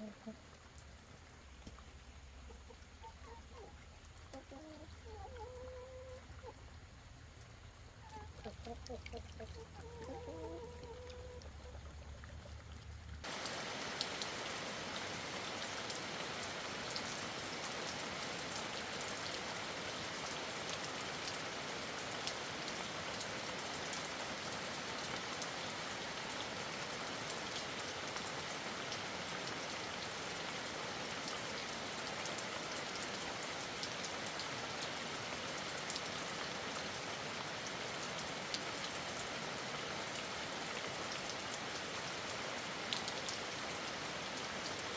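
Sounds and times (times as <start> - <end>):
steady rain falling: 0.0 - 12.5, 13.1 - 44.9.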